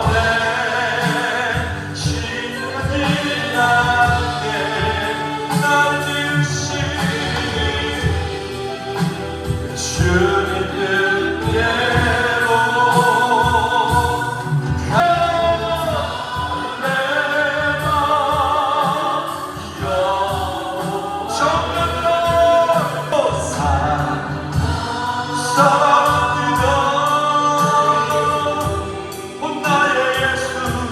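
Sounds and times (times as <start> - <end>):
band accompaniment: 0.0 - 30.9
group of voices singing: 0.0 - 30.9.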